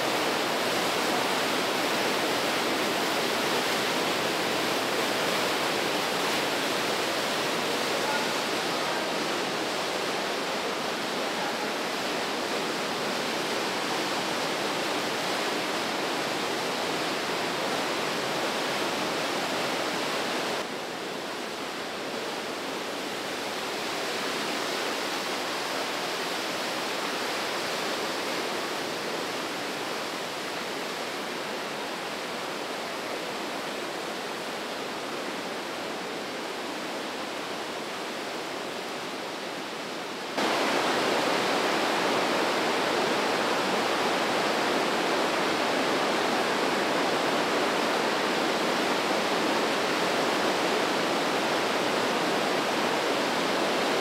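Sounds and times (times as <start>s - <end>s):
river rushing through gorge: 0.0s - 54.0s.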